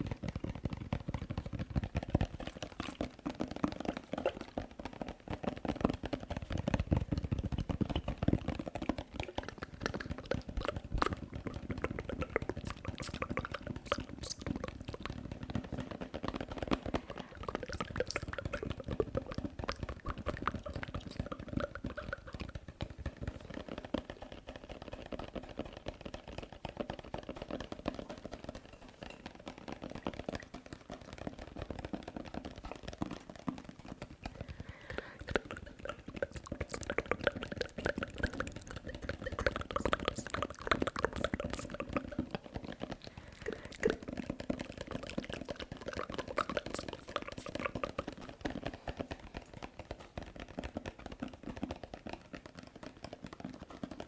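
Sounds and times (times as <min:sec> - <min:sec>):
mouth clicks and pops: 0:00.0 - 0:54.0.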